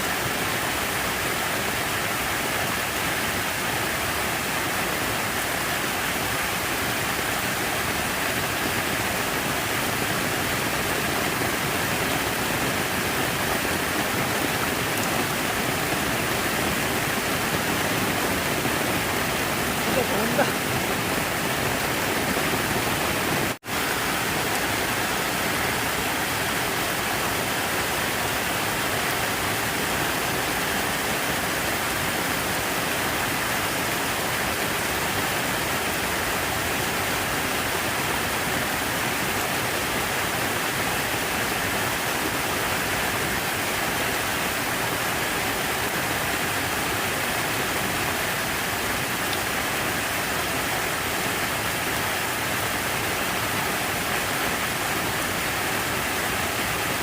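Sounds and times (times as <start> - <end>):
water falling and splashing: 0.0 - 57.0.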